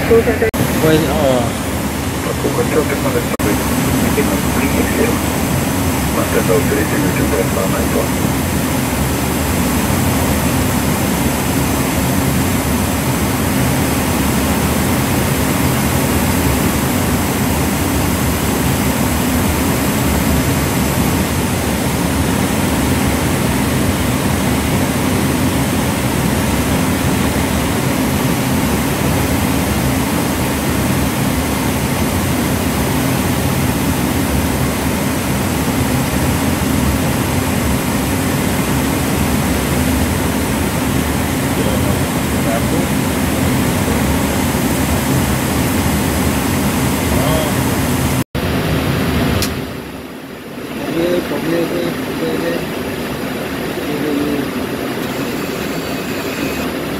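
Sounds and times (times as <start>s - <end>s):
jet airliner passing overhead: 0.0s - 49.4s.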